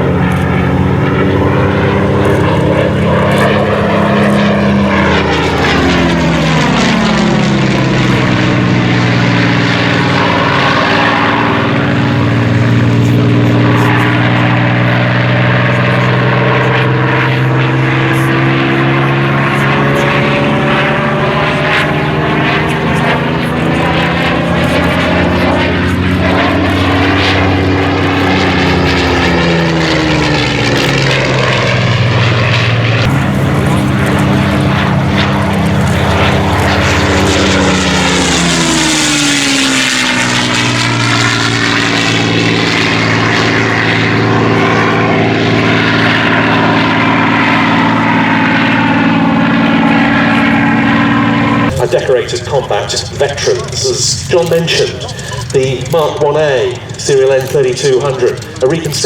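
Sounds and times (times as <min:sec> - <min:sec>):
propeller planes flying past: 0:00.0 - 0:59.0.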